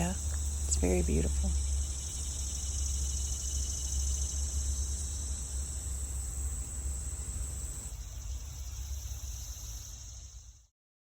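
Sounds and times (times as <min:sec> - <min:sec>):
low steady rumble: 0:00.0 - 0:09.6
insects trilling: 0:00.0 - 0:10.7.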